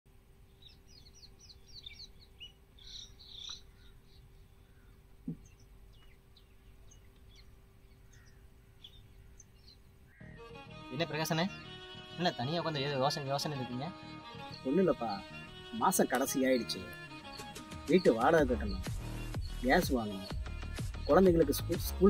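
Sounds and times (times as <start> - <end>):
birds chirping: 0.2 - 22.0.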